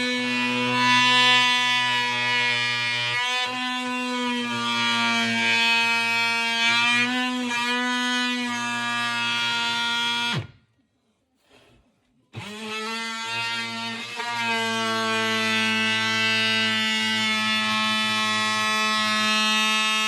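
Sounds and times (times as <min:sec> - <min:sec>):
oscillating multi-tool cutting: 0:00.0 - 0:10.5, 0:12.4 - 0:20.0.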